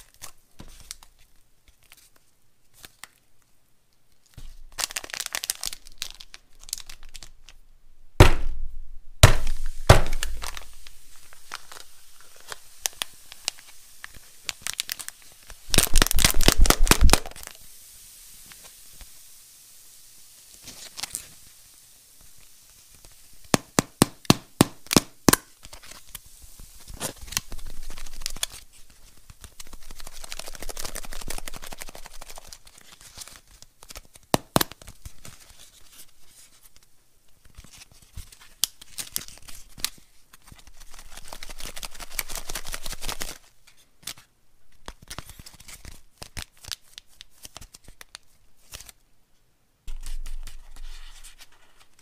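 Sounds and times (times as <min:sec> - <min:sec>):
foil wrapping crinkling: 0:00.0 - 0:03.2, 0:04.2 - 0:07.6, 0:09.2 - 0:19.3, 0:20.4 - 0:49.0, 0:49.9 - 0:52.0.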